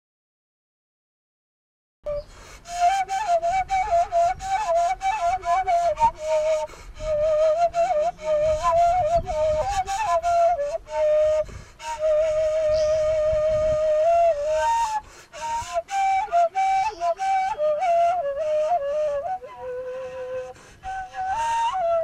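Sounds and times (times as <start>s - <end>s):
flute-like wind instrument melody: 2.1s - 22.0s.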